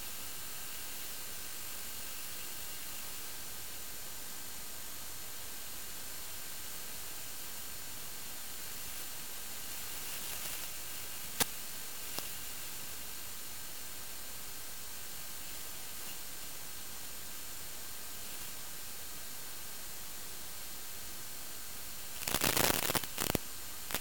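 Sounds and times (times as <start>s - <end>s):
static hiss: 0.0s - 24.0s.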